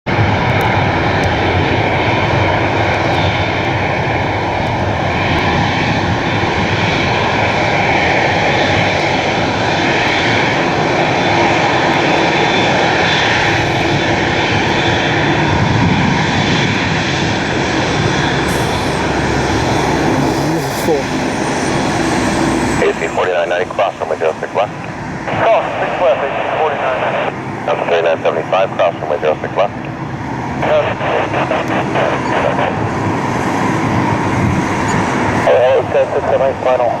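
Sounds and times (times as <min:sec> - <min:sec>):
jet engines roaring: 0:00.1 - 0:37.0.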